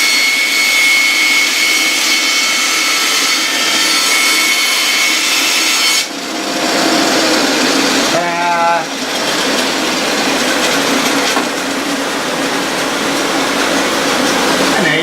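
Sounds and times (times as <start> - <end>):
bandsaw cutting wood: 0.0 - 13.0
high saw whine: 0.0 - 15.0.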